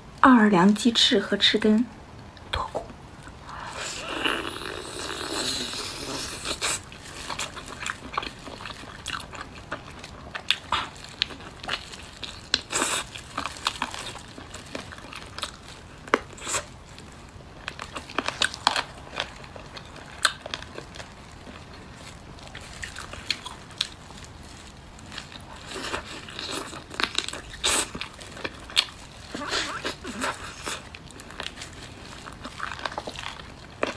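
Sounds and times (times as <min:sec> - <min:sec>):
person chewing crunchy chicken wings: 0:03.5 - 0:33.9.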